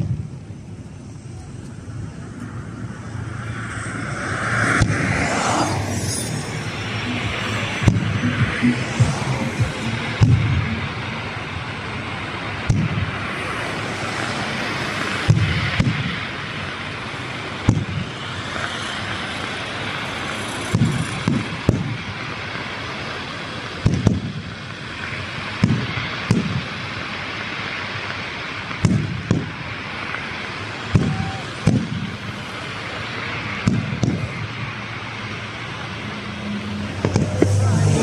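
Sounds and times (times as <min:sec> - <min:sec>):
fireworks bursting with bangs: 0:00.0 - 0:38.0
steady hiss: 0:00.0 - 0:38.0.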